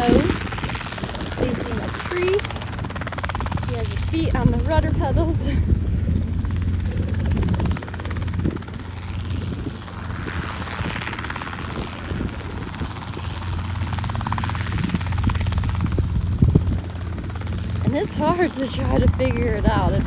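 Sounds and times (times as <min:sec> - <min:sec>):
helicopter hovering: 0:00.0 - 0:20.0.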